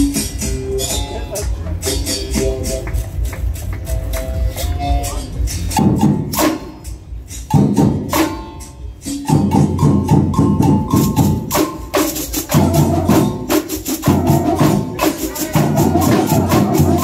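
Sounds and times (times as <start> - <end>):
tamborim and hand-drum strikes: 0.0 - 17.0.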